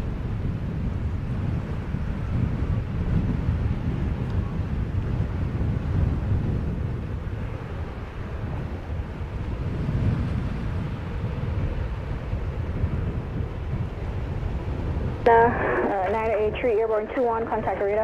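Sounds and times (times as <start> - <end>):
jet engines rumbling: 0.0 - 18.0
wind buffeting microphone: 0.0 - 18.0.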